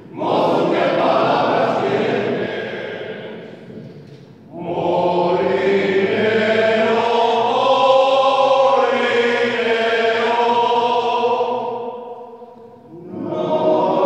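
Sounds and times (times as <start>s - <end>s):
men's choir singing: 0.0s - 14.0s.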